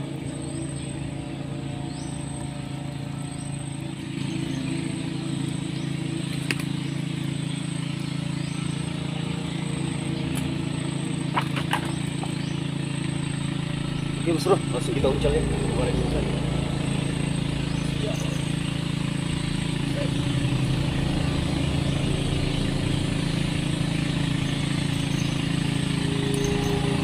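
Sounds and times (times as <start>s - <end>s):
high insect buzz: 0.0s - 27.0s
low engine hum: 0.0s - 27.0s.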